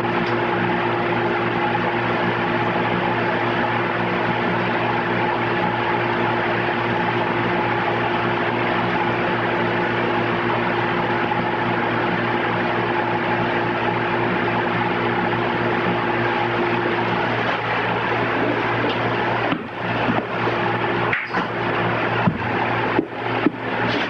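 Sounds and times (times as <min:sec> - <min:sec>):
steady hum with fixed tones: 0:00.0 - 0:24.0.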